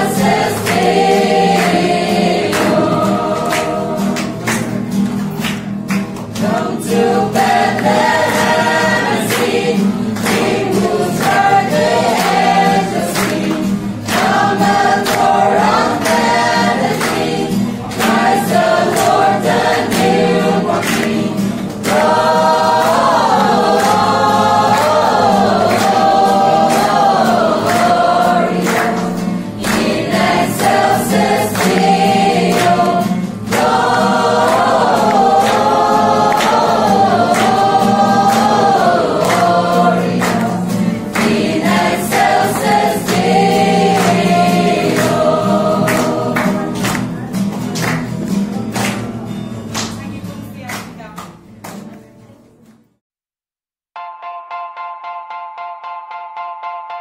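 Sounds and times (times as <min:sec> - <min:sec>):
group singing together: 0:00.0 - 0:49.6
acoustic guitar strumming: 0:00.0 - 0:52.3.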